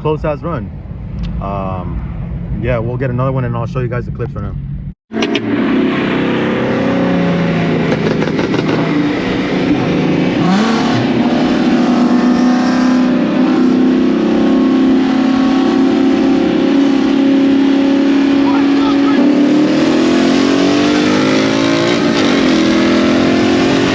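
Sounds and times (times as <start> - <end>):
car engines at full throttle: 0.0 - 23.9.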